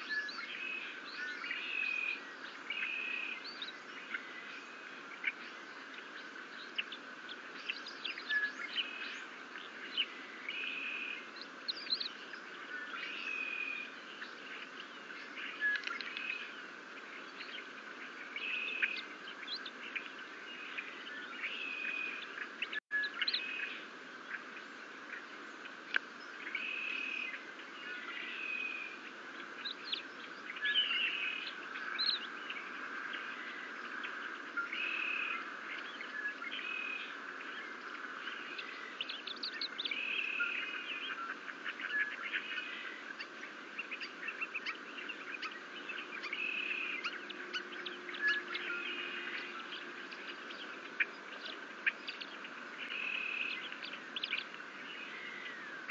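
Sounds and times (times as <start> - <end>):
birds chirping: 0.0 - 55.9
outdoor background hiss: 0.0 - 55.9.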